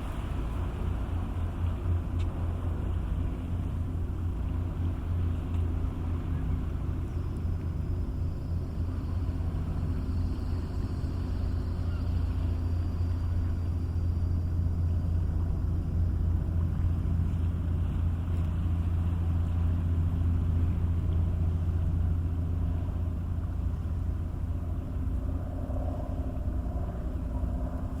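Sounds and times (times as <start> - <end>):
ferry engine droning: 0.0 - 28.0.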